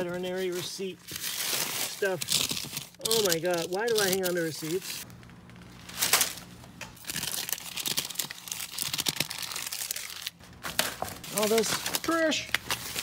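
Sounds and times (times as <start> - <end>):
paper crumpling and rustling: 0.0 - 13.0.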